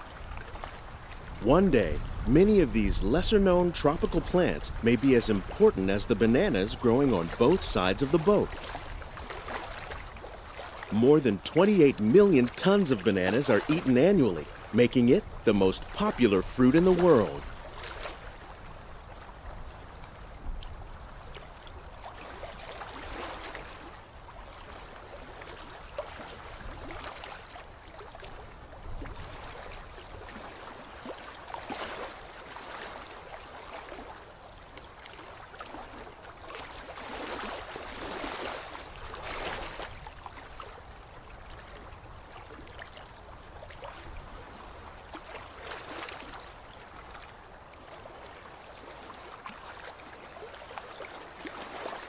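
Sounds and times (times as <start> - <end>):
water trickling and lapping: 0.0 - 52.0.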